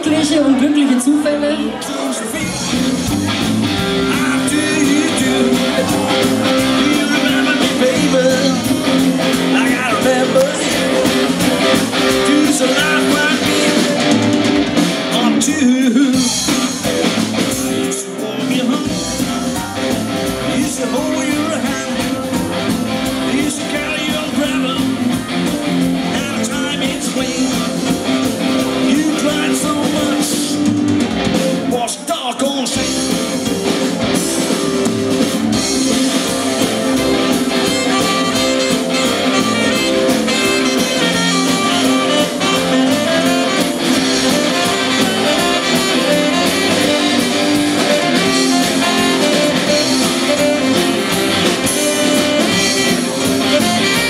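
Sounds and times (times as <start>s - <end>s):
electric guitar: 0.0s - 54.0s
live rock band playing: 0.0s - 54.0s.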